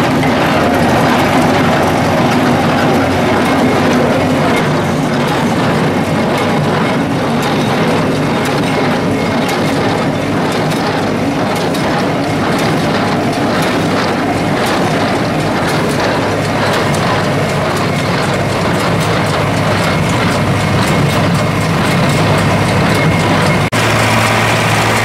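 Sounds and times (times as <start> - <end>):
baler mechanism clattering: 0.0 - 25.0
tractor engine drone: 0.0 - 25.0.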